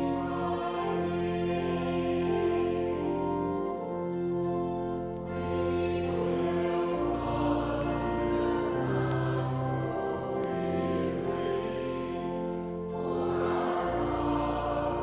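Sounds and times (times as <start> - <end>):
slow held chords: 0.0 - 15.0
voices singing a hymn: 0.0 - 15.0.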